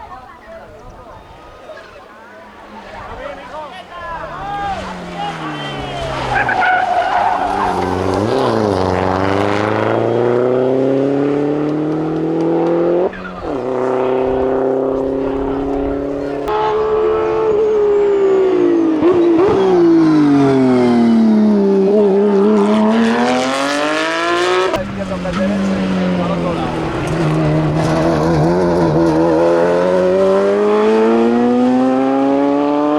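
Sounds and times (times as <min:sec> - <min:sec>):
race car engine at full throttle: 0:02.2 - 0:32.9
engine crackling: 0:02.4 - 0:31.2.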